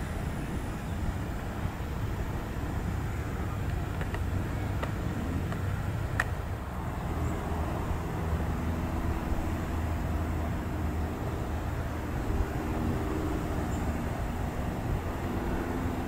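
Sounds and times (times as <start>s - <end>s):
car and truck traffic rumble: 0.0s - 16.0s.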